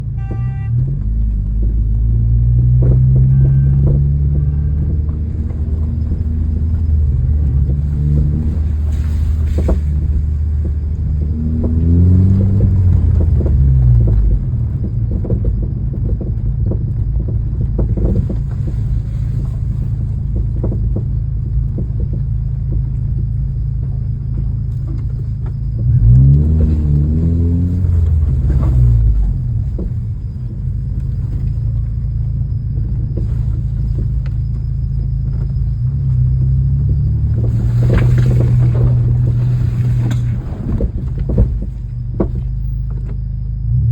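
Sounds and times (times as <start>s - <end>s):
car engine drone: 0.0s - 43.9s
road noise: 0.0s - 43.9s
suspension clunks: 0.0s - 43.9s.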